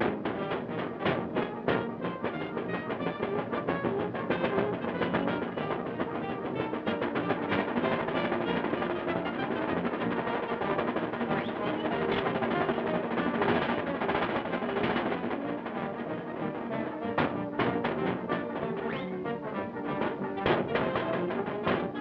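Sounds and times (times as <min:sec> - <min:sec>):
instrumental music with steady beat: 0:00.0 - 0:22.0.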